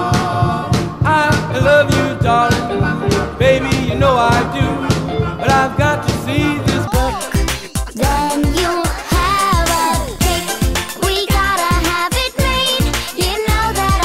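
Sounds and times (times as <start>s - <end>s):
person singing over a beat: 0.0s - 14.0s.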